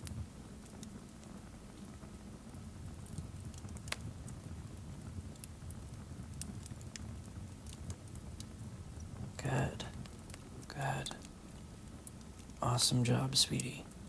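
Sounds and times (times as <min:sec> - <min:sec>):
fireplace crackling: 0:00.0 - 0:14.0.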